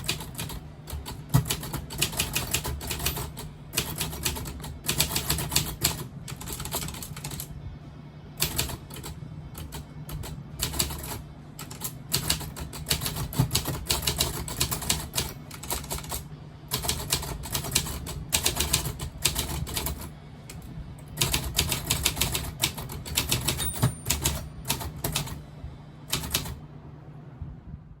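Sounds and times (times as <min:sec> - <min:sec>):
manual typewriter key strikes: 0:00.0 - 0:07.5, 0:08.4 - 0:20.1, 0:21.1 - 0:25.4, 0:26.1 - 0:26.6.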